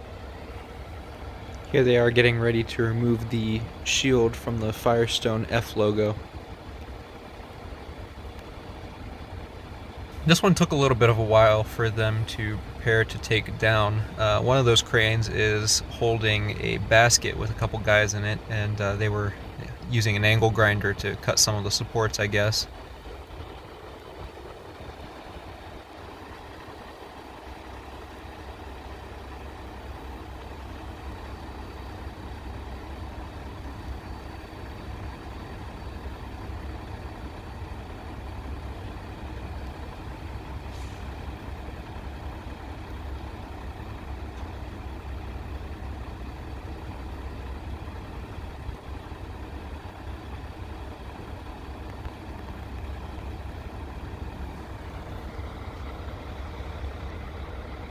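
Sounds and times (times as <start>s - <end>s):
diesel engine rumbling: 0.0s - 57.9s.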